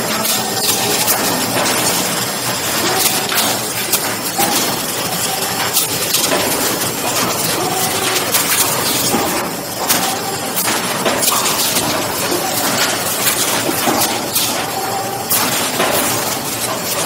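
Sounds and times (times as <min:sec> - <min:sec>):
machine mechanical din: 0:00.0 - 0:17.0
sharp machine clacks: 0:00.0 - 0:17.0.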